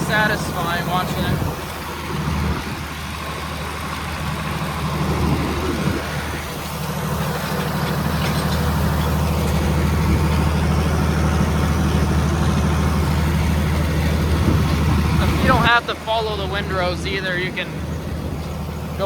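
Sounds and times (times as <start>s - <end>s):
tractor engine running under load: 0.0s - 19.0s.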